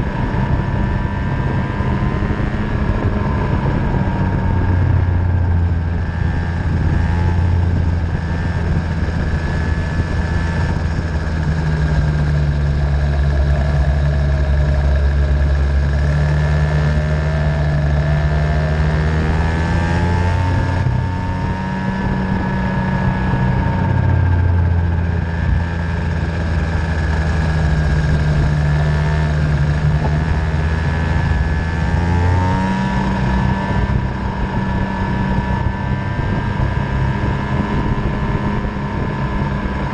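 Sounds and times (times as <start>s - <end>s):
racing engine revving: 0.0s - 39.9s
steady low drone: 0.0s - 39.9s.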